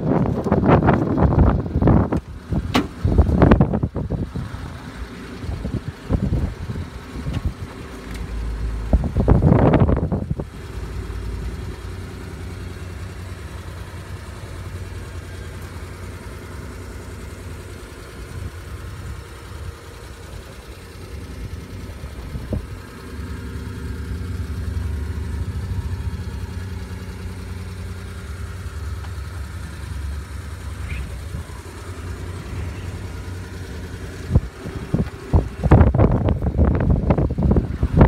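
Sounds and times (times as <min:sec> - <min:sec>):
small truck engine idling: 0:00.0 - 0:38.0.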